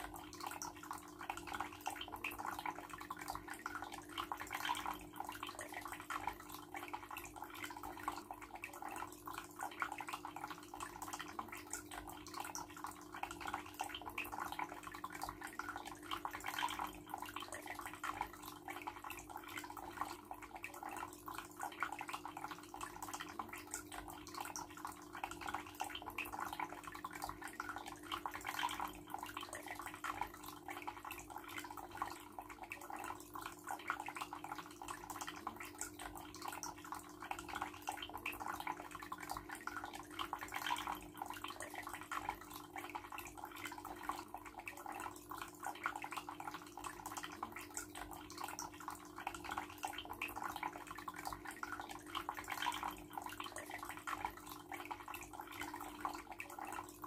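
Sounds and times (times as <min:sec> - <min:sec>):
steady low pump hum: 0:00.0 - 0:57.0
water dripping: 0:00.0 - 0:57.0
water trickling and splashing: 0:00.0 - 0:57.0.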